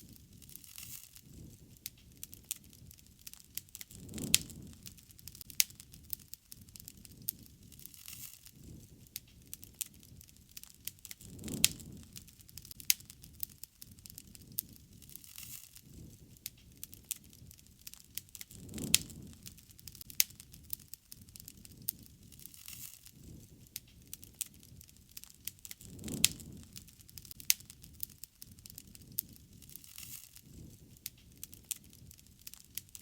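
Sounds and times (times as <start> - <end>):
campfire crackling and popping: 0.0 - 33.0
fire rushing: 0.0 - 33.0.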